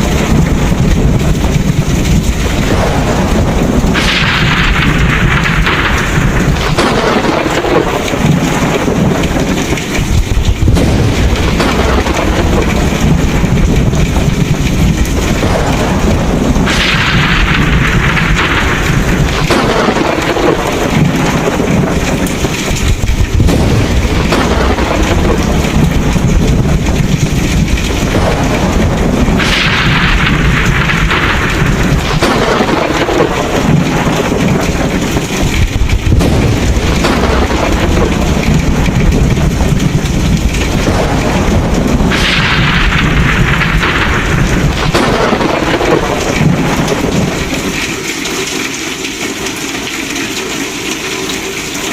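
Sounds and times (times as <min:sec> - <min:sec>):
heavy rain hissing: 0:00.0 - 0:51.9
thunder rumbling: 0:00.0 - 0:51.9.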